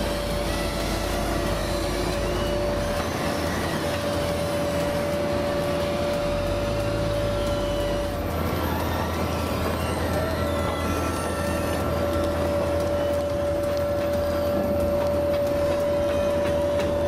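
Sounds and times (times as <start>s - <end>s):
paver engine rumbling: 0.0s - 17.0s
steady mechanical whine: 0.0s - 17.0s.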